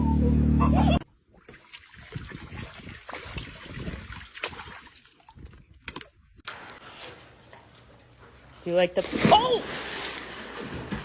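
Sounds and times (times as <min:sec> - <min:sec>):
water splashing and trickling: 0:01.1 - 0:11.0.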